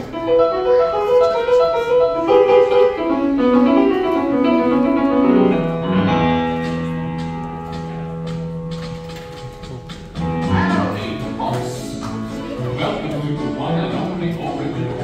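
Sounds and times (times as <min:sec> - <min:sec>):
piano-led show music: 0:00.0 - 0:15.0.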